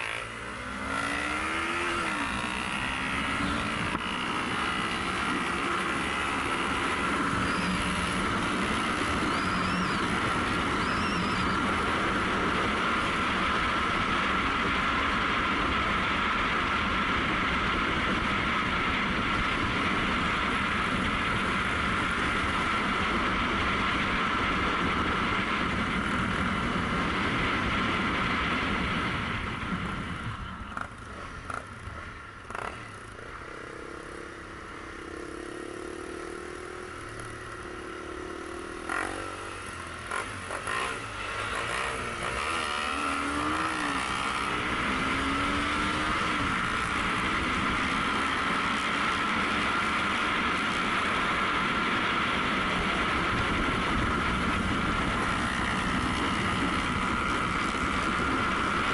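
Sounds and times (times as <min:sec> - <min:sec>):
motorcycle engine cruising: 0:00.0 - 0:58.9
wind rushing on microphone: 0:00.7 - 0:32.9, 0:39.4 - 0:58.9.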